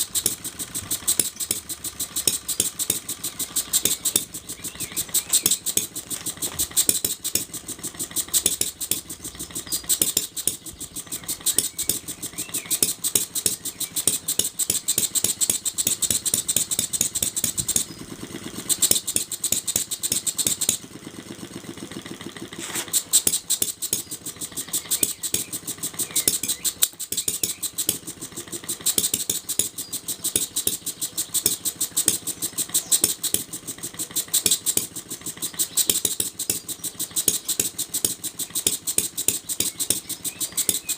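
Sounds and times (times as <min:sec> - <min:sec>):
mechanical rattle: 0:00.0 - 0:40.9
small model engine running: 0:00.0 - 0:40.9.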